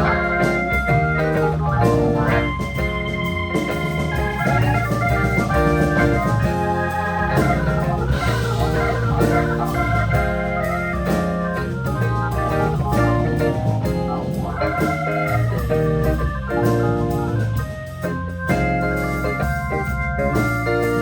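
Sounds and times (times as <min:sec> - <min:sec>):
drums keeping time: 0:00.0 - 0:21.0
jazz band playing: 0:00.0 - 0:21.0
low bass notes: 0:00.0 - 0:21.0
sustained organ chords: 0:00.0 - 0:21.0.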